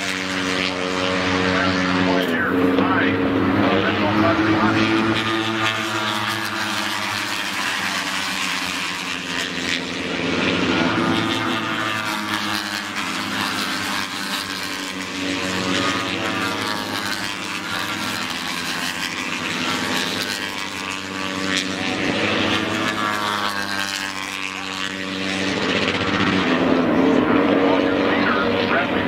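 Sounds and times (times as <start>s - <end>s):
racing motorcycles at high revs: 0.0s - 29.0s.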